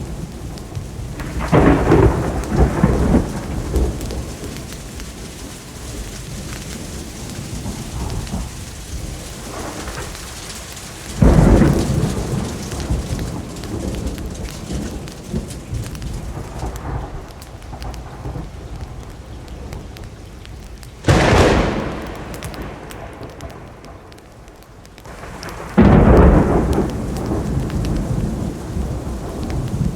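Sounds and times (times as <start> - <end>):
steady rain: 0.0 - 29.9
thunder claps rumbling: 0.0 - 29.9.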